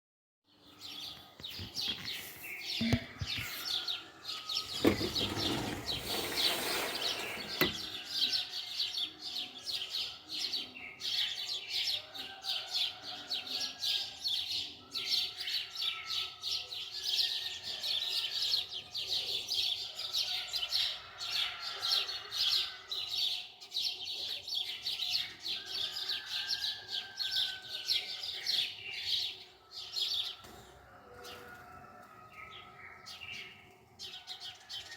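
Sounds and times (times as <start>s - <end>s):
small birds chirping and singing: 0.5s - 34.9s.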